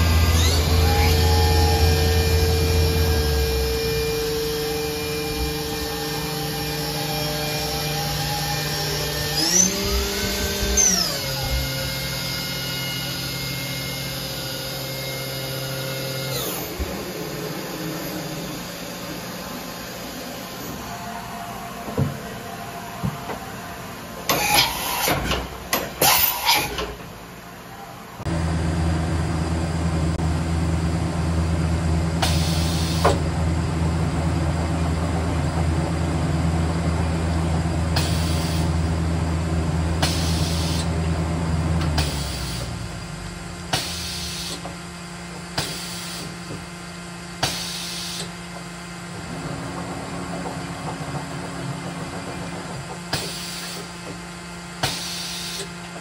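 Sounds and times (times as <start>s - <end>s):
tool changer mechanical drone: 0.0s - 56.0s.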